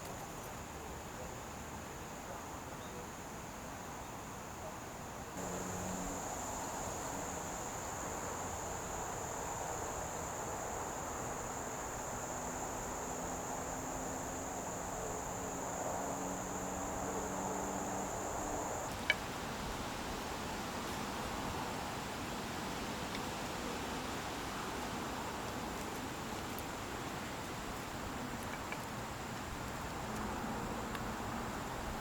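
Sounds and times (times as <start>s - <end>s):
crickets chirring: 2.8s - 32.0s.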